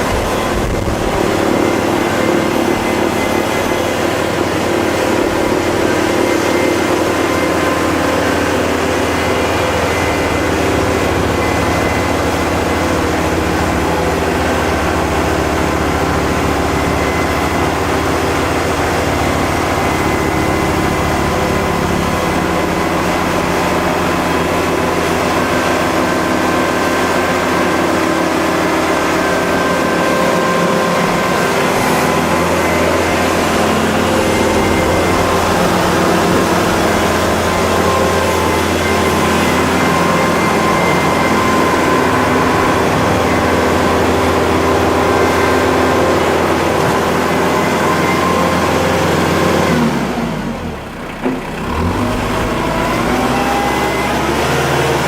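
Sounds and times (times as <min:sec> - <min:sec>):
steady pitched tones: 0:00.0 - 0:51.0
tractor diesel engine running: 0:00.0 - 0:55.0.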